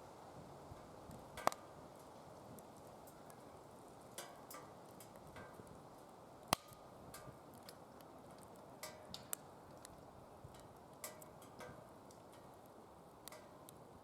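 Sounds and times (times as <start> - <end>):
firewood crackling and popping: 0.0 - 14.0
soft steady hiss: 0.0 - 14.0.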